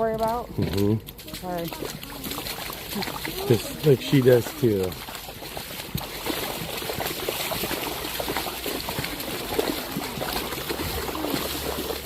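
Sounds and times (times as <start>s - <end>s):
small splashy blips: 0.0s - 12.0s
water trickling and gurgling: 0.0s - 12.0s.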